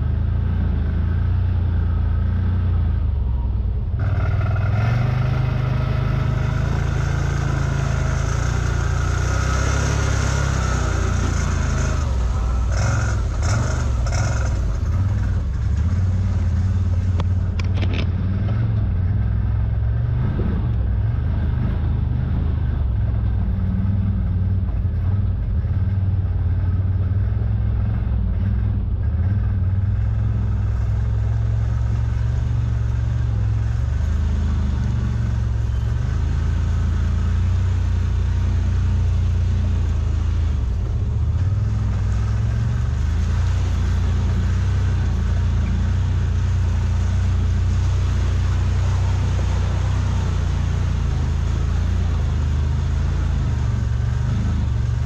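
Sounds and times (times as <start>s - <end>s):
engine droning: 0.0s - 55.0s.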